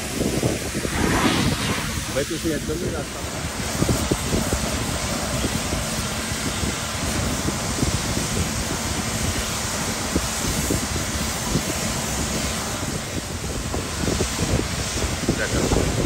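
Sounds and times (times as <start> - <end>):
high-pressure water spraying: 0.0 - 16.0.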